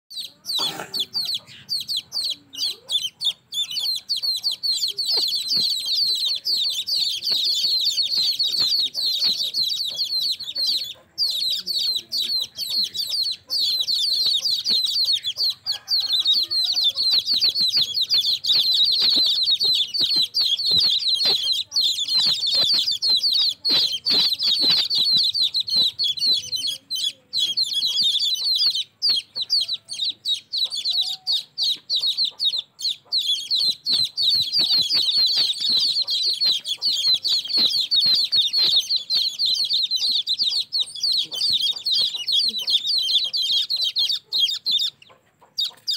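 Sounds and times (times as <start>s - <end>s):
baby chicks peeping: 0.1s - 45.9s.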